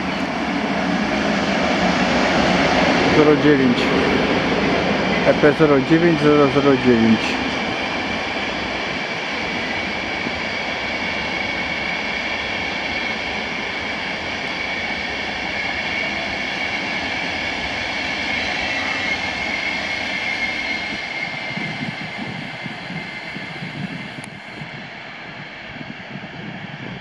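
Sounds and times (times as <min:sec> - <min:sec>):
high whine: 0:00.0 - 0:27.0
train wheels rumbling on rail: 0:00.0 - 0:27.0.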